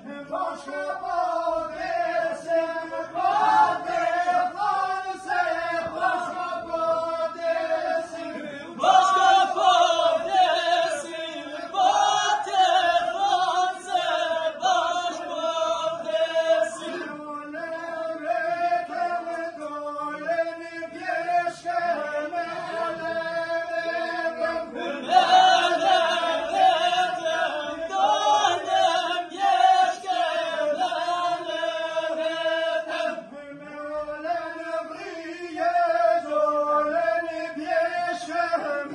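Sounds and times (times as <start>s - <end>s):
group folk singing: 0.0s - 38.9s.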